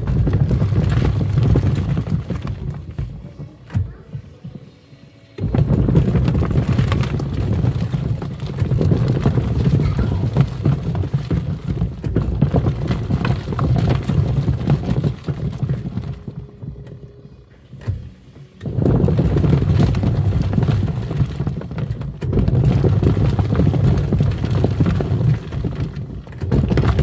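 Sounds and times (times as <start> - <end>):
washing machine churning water: 0.0 - 4.6, 5.4 - 17.0, 17.8 - 27.0
plastic toys knocking: 0.0 - 4.8, 5.4 - 17.2, 17.8 - 27.0.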